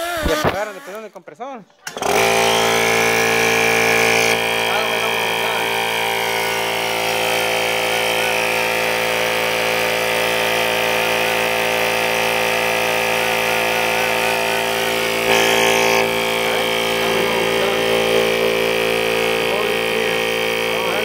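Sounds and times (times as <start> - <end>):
motor humming: 0.0 - 1.1, 1.8 - 21.0.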